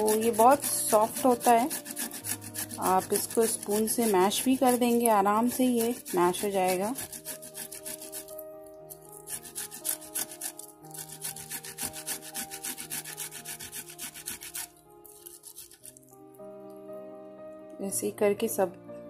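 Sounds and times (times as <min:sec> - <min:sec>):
strawberry rasping on grater: 0:00.0 - 0:16.1
soft background music: 0:00.0 - 0:19.0.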